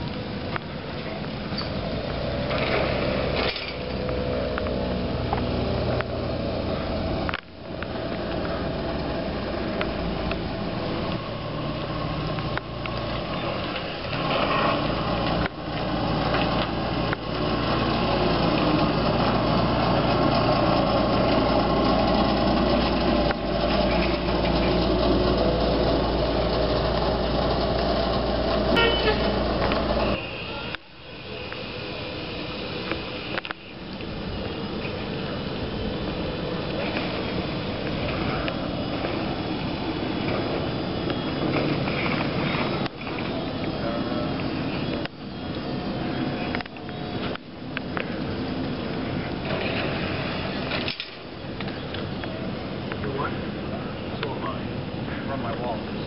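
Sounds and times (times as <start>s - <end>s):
trolleybus running with low hum: 0.0s - 56.0s.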